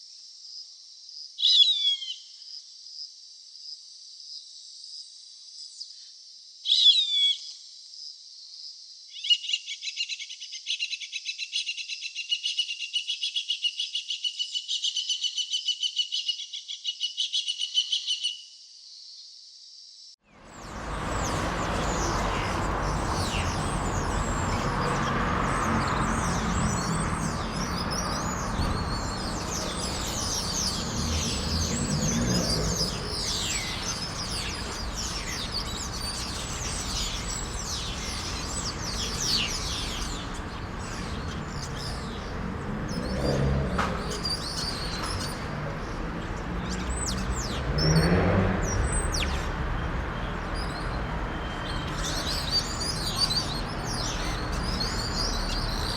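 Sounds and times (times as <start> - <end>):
small birds chirping: 6.7 - 55.9.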